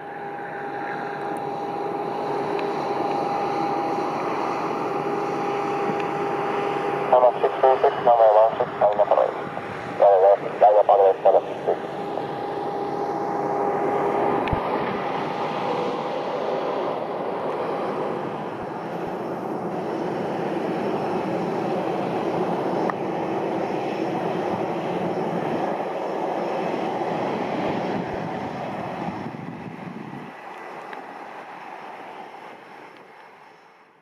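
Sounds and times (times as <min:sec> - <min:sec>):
aircraft engines roaring: 0:00.0 - 0:34.0.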